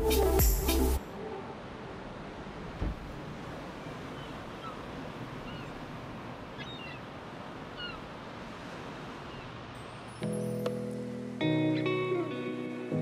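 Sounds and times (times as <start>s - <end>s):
ocean surf: 0.1s - 13.0s.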